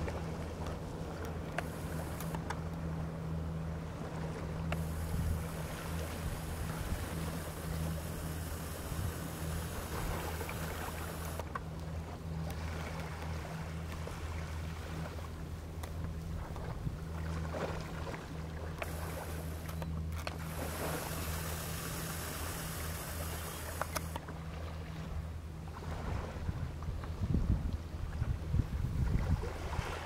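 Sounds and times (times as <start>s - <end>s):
outboard motor humming: 0.0s - 30.0s
wind and water hiss: 0.0s - 30.0s.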